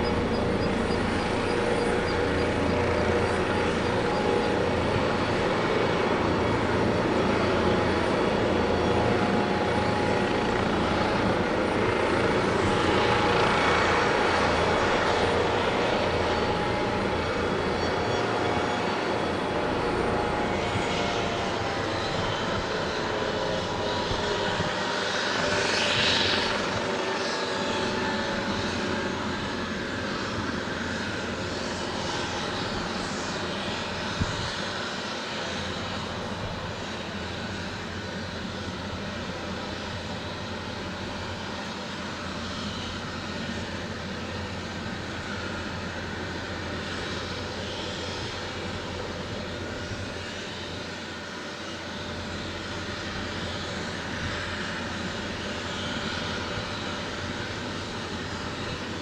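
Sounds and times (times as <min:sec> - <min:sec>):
helicopter engine and rotor roar: 0:00.0 - 0:59.0.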